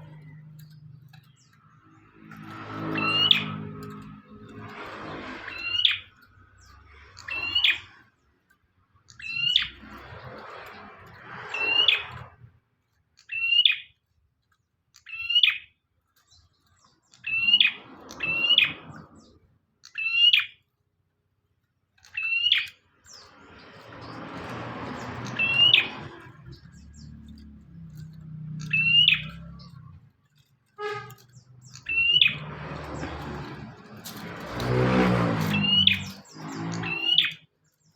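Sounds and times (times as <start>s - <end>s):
bird chirping: 0.0s - 12.5s, 13.2s - 14.0s, 14.6s - 20.7s, 22.0s - 37.9s.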